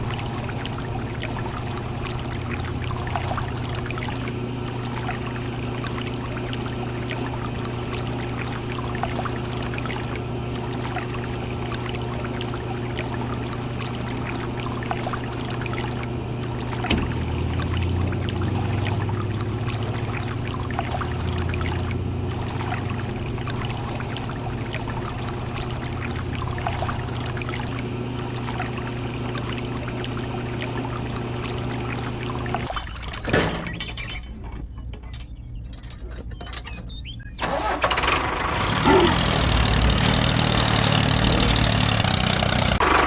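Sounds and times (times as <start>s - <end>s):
gritty trickling and pouring: 0.0s - 34.3s, 38.6s - 42.8s.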